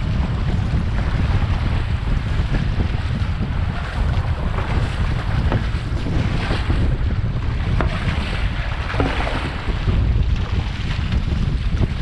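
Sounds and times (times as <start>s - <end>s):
water noise: 0.0s - 12.0s
wind buffeting microphone: 0.0s - 12.0s.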